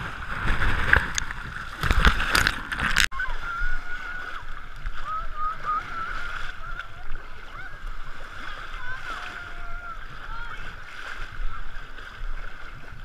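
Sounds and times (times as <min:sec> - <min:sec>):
sea waves sloshing: 0:00.0 - 0:13.0.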